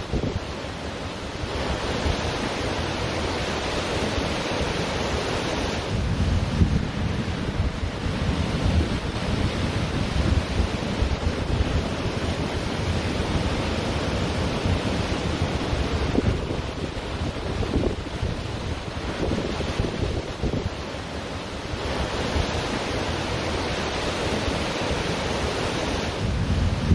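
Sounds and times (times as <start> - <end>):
ocean surf washing on beach: 0.0 - 26.9
wind rumbling on microphone: 0.0 - 26.9.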